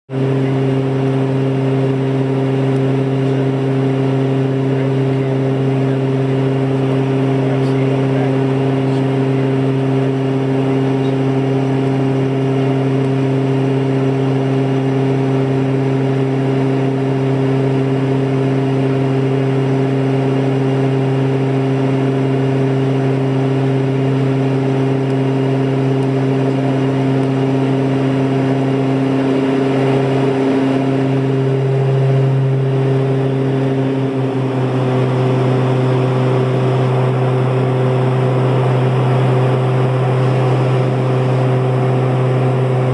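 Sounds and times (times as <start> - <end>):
aircraft cabin drone: 0.1 - 42.9.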